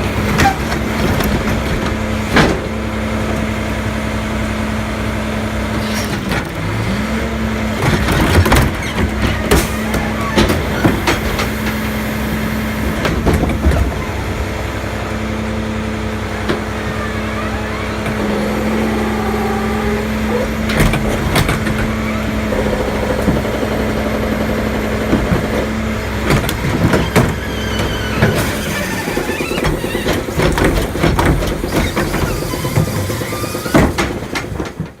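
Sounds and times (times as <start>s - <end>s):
garbage truck diesel engine running: 0.0s - 35.0s.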